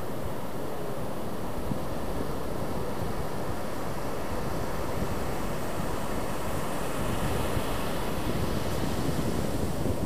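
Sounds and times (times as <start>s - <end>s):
wind buffeting microphone: 1.0s - 10.0s.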